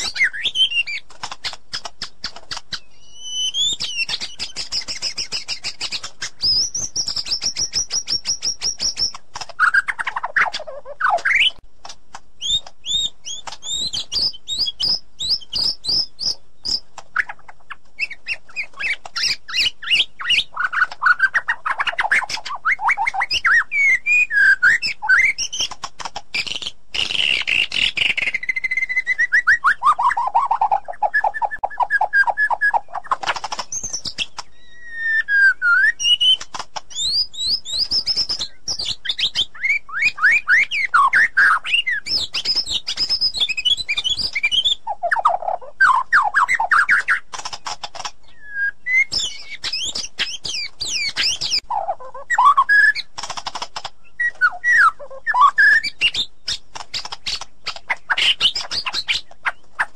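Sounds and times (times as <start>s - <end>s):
bird singing varied song: 0.0s - 11.7s, 12.4s - 59.9s.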